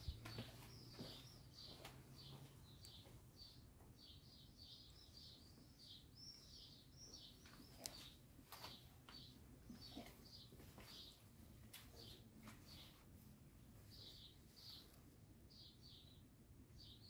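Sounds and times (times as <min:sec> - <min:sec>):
small bird chirping: 0:00.0 - 0:13.0, 0:13.8 - 0:17.0.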